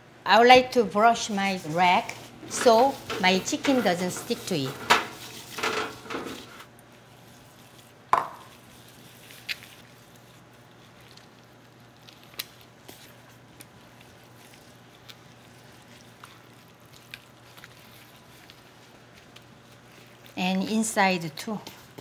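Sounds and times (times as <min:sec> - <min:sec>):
wet squishing of rubbing chicken: 0:04.4 - 0:22.0.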